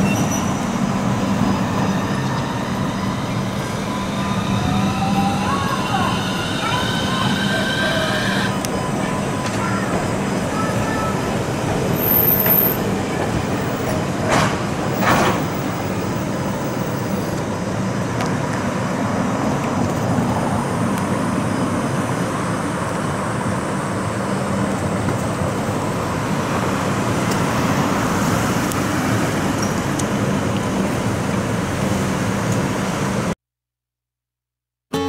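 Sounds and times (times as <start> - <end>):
streetcar rumbling on rails: 0.0 - 33.4.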